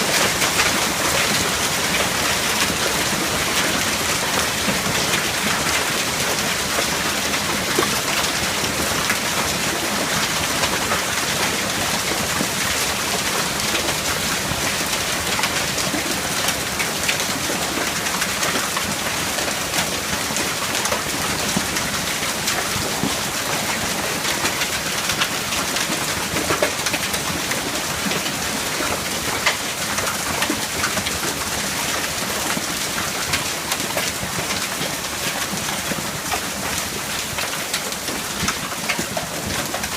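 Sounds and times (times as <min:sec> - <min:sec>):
hail falling: 0:00.0 - 0:39.9.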